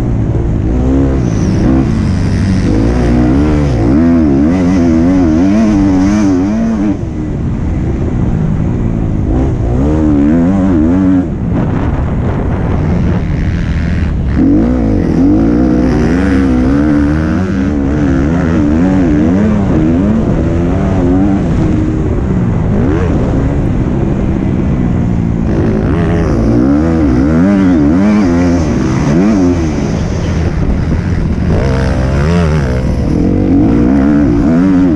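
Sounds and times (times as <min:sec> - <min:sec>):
motocross bike engine revving: 0:00.0 - 0:07.2, 0:09.2 - 0:34.9.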